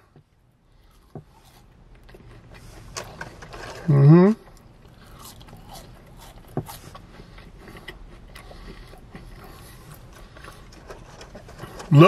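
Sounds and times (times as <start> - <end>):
person chewing fries: 0.0 - 12.0.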